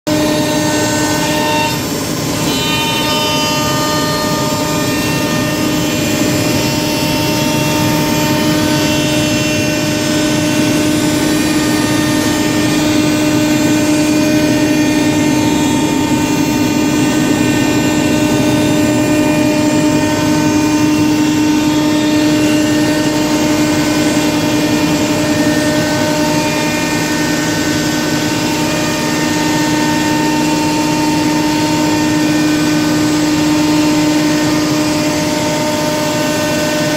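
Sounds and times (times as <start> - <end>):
router spindle whining: 0.1 - 36.9.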